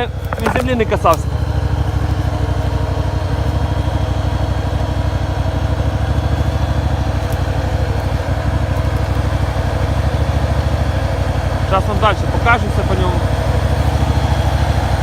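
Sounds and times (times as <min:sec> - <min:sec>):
buggy engine idling: 0:00.0 - 0:15.0.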